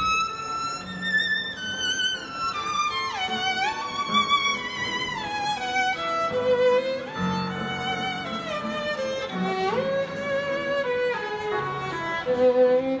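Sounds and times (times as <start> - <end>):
digital piano accompaniment: 0.0 - 13.0
violin melody: 0.0 - 13.0.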